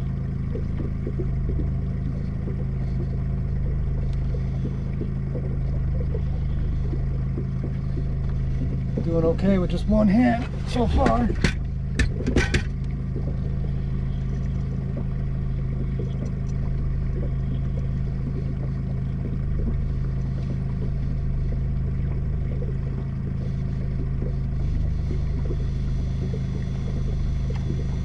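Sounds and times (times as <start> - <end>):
boat motor running: 0.0 - 28.0.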